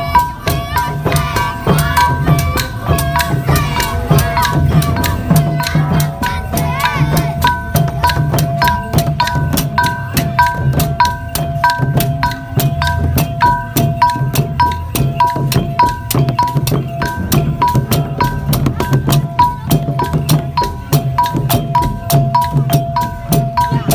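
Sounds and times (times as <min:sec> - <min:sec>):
hand drums beaten with palm: 0:00.0 - 0:23.9
small hand cymbals clashing: 0:00.0 - 0:23.9.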